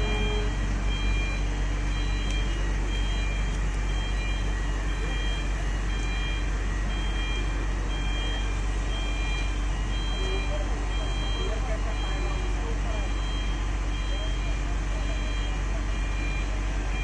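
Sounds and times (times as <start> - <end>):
heavy machine engine rumbling: 0.0 - 17.0
reversing alarm beeping: 0.0 - 17.0.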